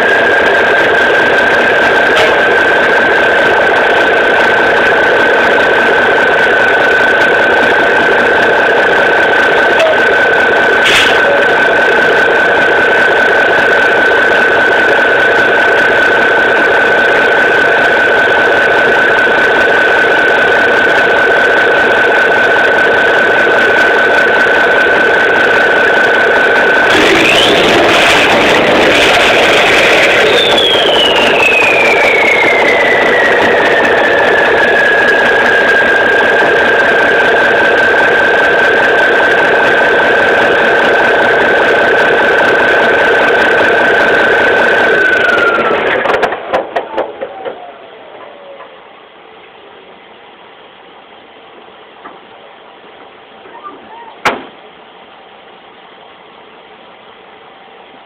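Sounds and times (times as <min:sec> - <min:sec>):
turbocharger whistling: 0:00.0 - 0:48.8
diesel truck engine running: 0:00.0 - 0:58.0.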